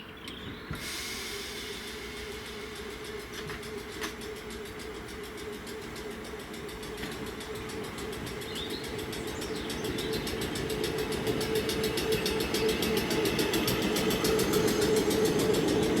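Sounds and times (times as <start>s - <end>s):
rail vehicle electric hum: 0.0s - 16.0s.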